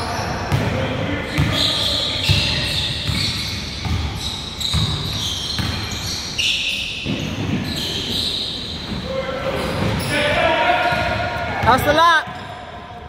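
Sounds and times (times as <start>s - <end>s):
sneakers squeaking on court: 0.0s - 12.8s.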